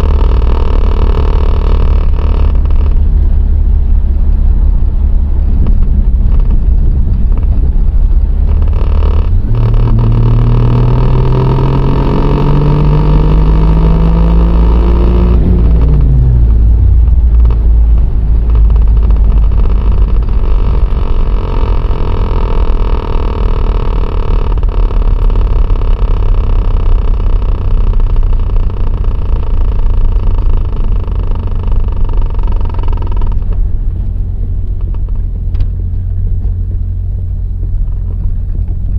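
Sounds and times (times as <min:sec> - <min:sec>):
car engine revving: 0:00.0 - 0:38.9
steady pitched hum: 0:00.0 - 0:38.9.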